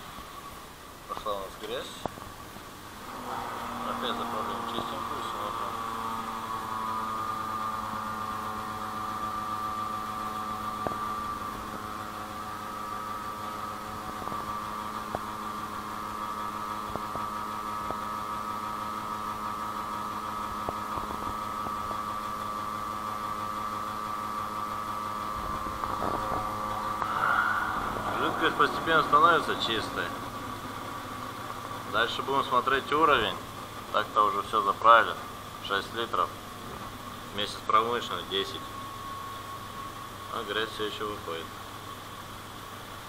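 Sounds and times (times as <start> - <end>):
fluid flushing machine humming: 2.2 - 40.3.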